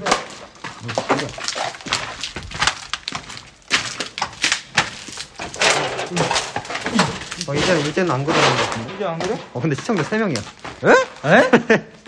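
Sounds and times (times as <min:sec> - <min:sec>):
footsteps crunching over debris: 0:00.0 - 0:12.0.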